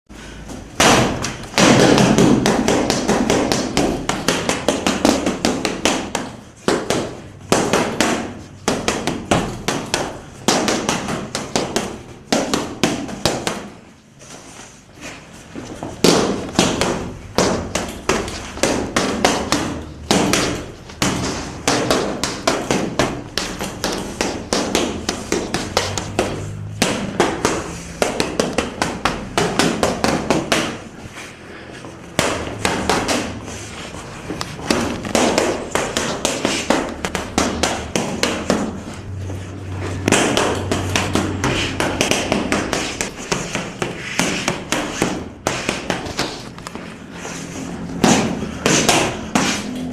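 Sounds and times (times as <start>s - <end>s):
punches on boxing bags: 0.7s - 13.8s, 16.0s - 30.9s, 34.6s - 38.8s, 40.0s - 46.4s, 47.8s - 49.6s.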